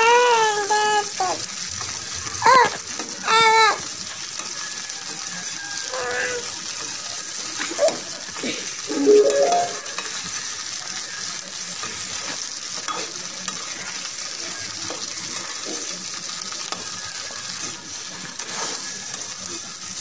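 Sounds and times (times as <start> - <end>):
okra sizzling in oil: 0.0 - 20.0.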